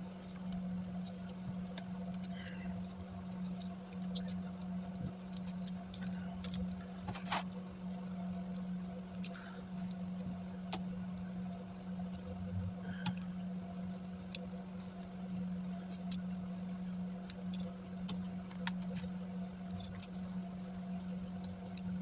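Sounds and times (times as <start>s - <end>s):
light clicks and taps: 0.0s - 11.3s, 13.0s - 20.8s
steady low hum: 0.0s - 22.0s.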